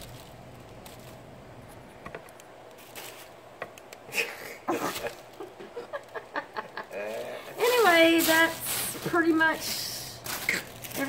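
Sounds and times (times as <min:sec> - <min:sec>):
cloth rustling: 0:00.0 - 0:01.9, 0:02.5 - 0:03.6, 0:04.6 - 0:11.0.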